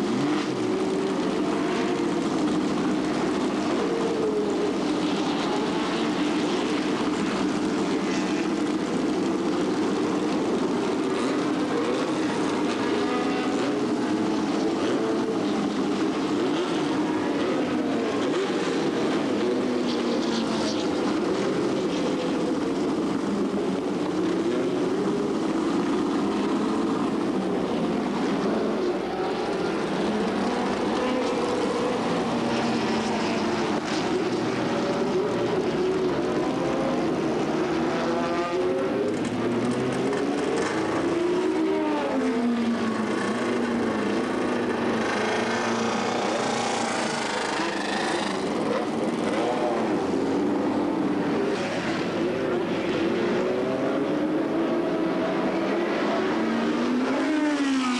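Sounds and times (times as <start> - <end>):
racing car engines passing: 0.0 - 57.9.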